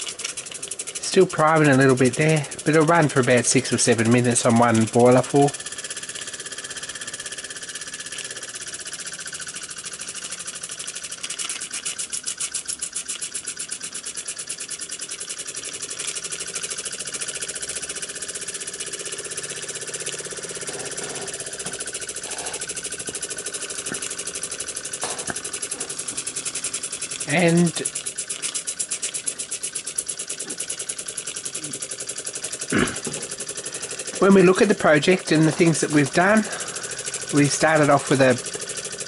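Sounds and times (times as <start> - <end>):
model steam engine chuffing: 0.0 - 39.0.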